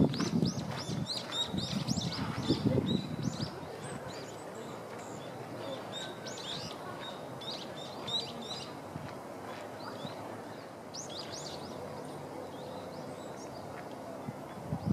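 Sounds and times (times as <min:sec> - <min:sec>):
small birds chirping: 0:00.0 - 0:08.9, 0:09.7 - 0:14.9.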